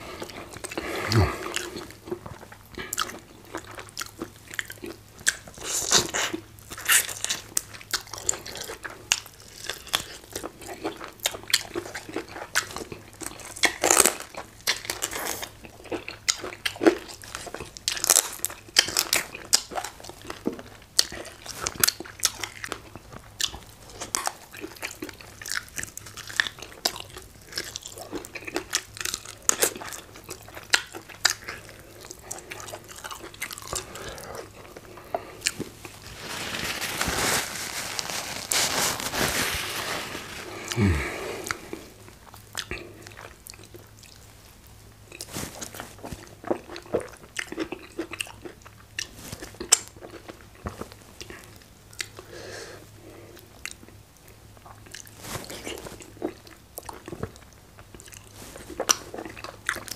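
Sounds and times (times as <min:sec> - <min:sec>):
chewing and biting: 0:00.1 - 0:36.0, 0:40.6 - 0:44.3, 0:45.1 - 0:52.3, 0:54.6 - 0:59.9.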